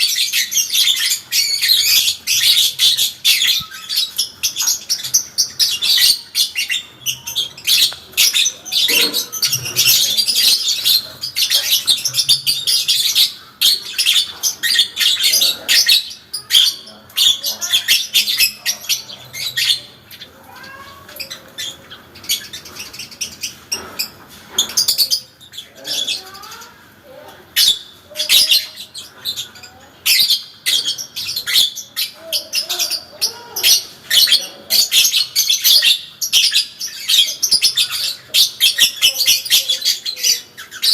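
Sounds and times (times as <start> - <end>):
lovebird chattering song: 0.0 - 26.8, 27.5 - 40.9.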